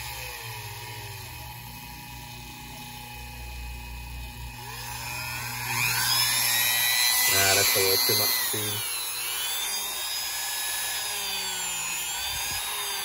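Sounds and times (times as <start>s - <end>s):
rotary tool whining: 0.0s - 13.0s.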